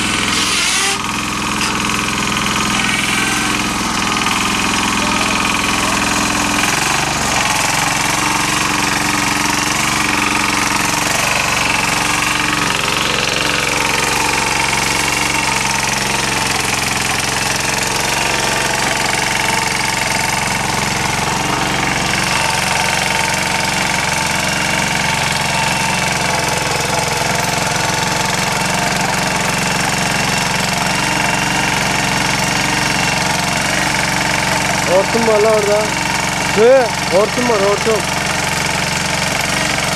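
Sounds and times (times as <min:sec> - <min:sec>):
rotary tiller engine running: 0:00.0 - 0:39.9.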